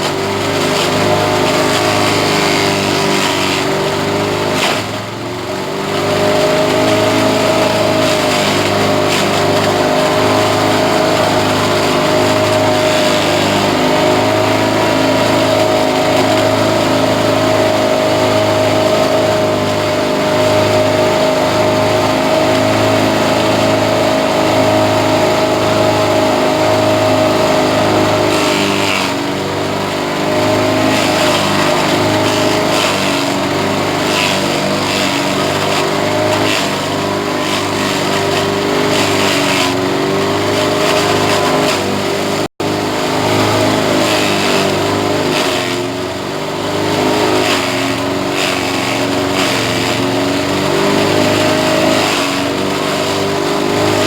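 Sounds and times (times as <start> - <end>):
grass chopper engine running: 0.0 - 54.0.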